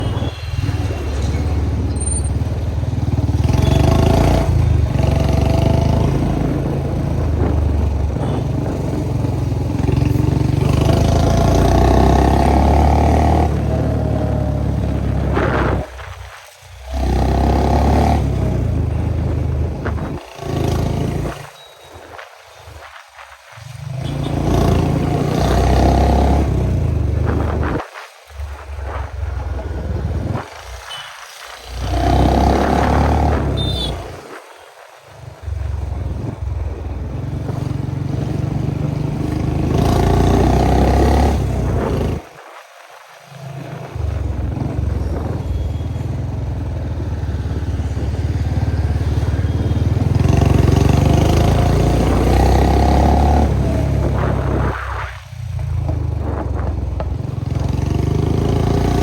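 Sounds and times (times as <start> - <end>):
motorcycle engine revving: 0.0 - 21.5, 23.6 - 27.8, 31.7 - 34.2, 35.1 - 42.4, 43.3 - 59.0.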